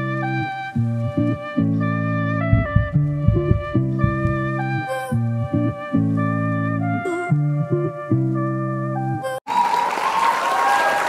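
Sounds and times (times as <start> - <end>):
background music with held chords: 0.0 - 9.3.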